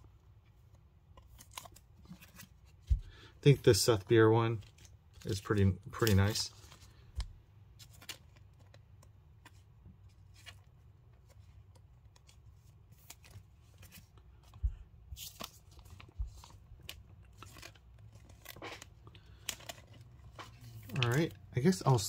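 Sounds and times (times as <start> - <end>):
cards clicking and rustling: 0.4 - 3.2, 3.9 - 22.0.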